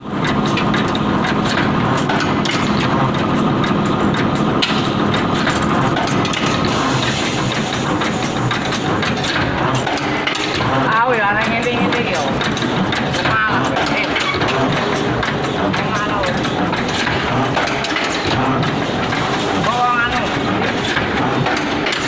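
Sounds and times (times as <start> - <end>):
bending machine motor hum: 0.0 - 22.0
machine clicks and knocks: 0.0 - 22.0.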